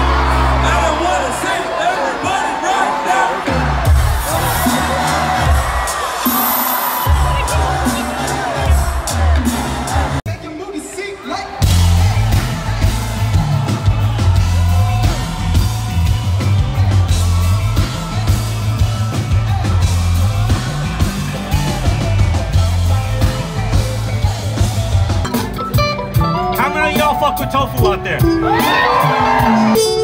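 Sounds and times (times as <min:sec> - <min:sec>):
live concert music: 0:00.0 - 0:30.0
heavy bass line and drums: 0:03.5 - 0:06.3, 0:07.1 - 0:10.2, 0:11.6 - 0:29.8.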